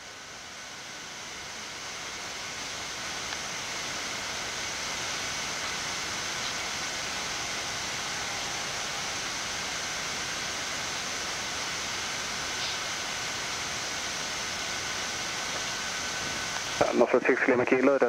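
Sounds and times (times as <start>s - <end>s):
ventilation hiss: 0.0s - 18.0s.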